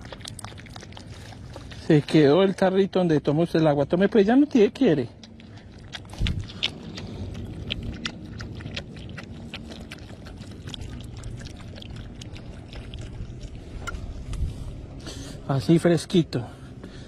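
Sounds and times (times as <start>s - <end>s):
dog lapping water: 0.0s - 15.0s
steady low rumble: 0.0s - 17.0s.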